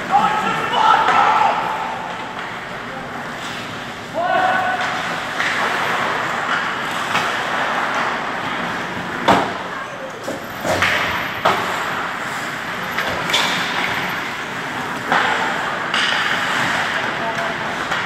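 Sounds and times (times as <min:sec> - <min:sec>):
puck and players hitting boards: 0:00.0 - 0:18.0.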